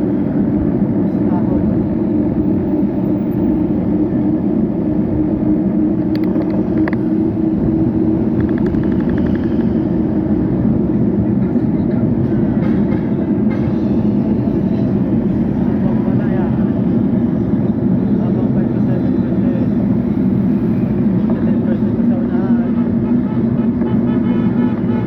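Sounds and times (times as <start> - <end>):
passing traffic engines: 0.0 - 25.0
wind and road noise: 0.0 - 25.0.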